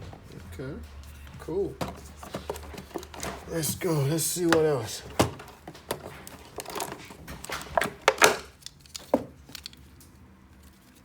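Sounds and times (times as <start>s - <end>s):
packaging rustling and clicking: 1.9s - 11.0s.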